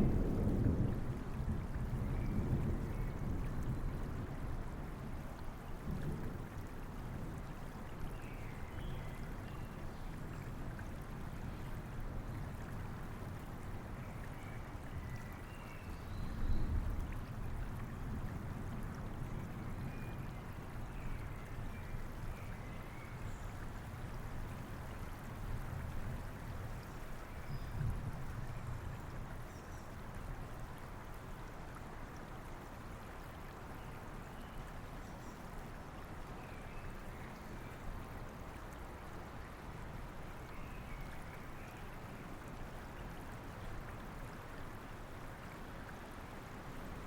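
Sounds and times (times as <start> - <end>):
river flowing: 0.0 - 47.0
steady rain: 0.0 - 47.0.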